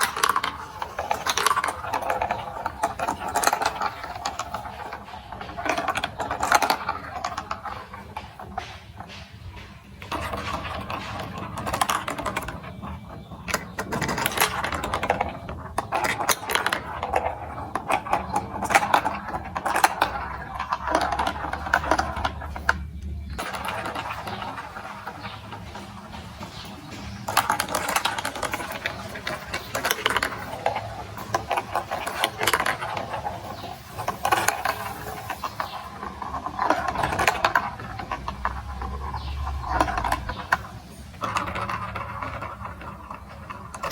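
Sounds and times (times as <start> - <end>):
marbles clattering on plastic run: 0.0 - 43.9.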